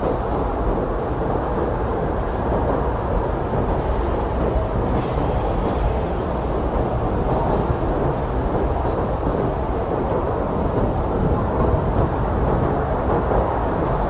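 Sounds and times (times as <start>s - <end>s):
strong blizzard wind: 0.0s - 14.0s.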